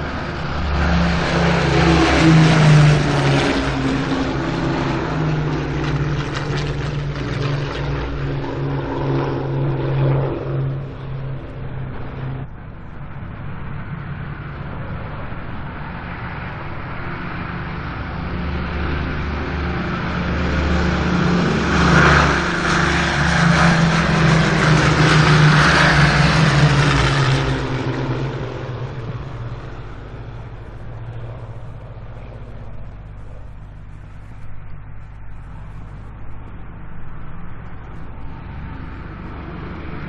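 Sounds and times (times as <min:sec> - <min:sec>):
propeller aircraft engines droning: 0:00.0 - 0:40.0.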